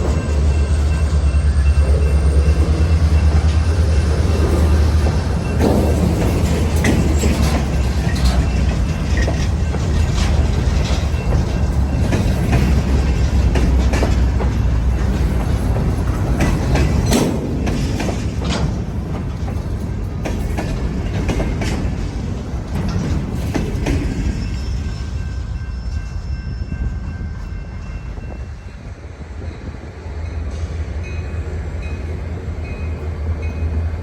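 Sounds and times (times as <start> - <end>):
train wheels clicking on rail joints: 0.0 - 28.8
train low rumble: 0.0 - 34.0.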